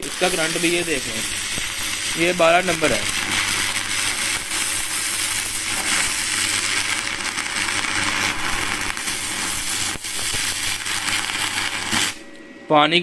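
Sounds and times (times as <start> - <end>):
welding arc crackling and sizzling: 0.0 - 12.5.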